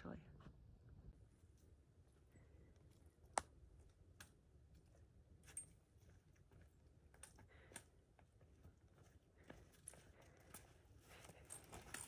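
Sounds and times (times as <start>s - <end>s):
trekking poles tapping trail: 1.6s - 12.0s.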